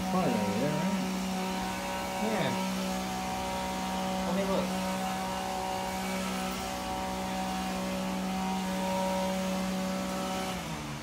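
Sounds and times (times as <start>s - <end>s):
motor humming and winding down: 0.0s - 11.0s.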